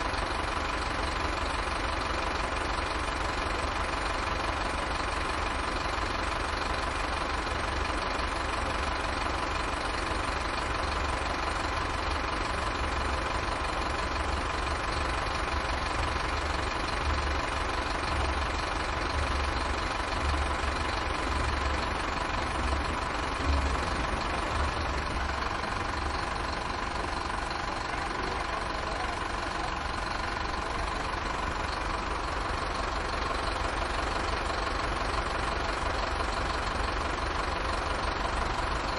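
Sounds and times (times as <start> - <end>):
bus engine idling: 0.0 - 38.9.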